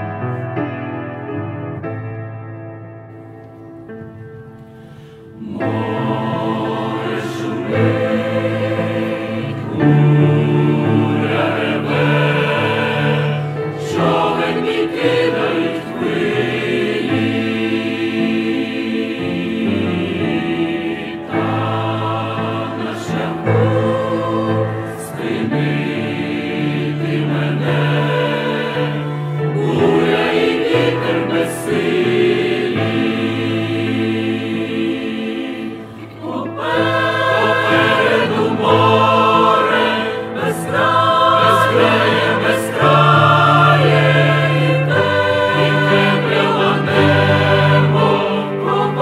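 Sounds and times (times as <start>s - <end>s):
choir singing a hymn: 4.1s - 49.0s.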